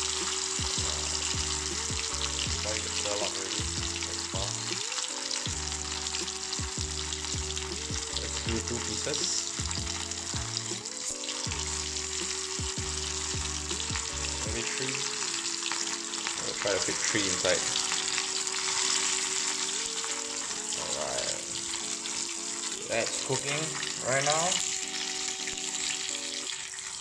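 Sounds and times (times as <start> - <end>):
background music: 0.0 - 27.0
fish sizzling in hot oil: 0.0 - 27.0.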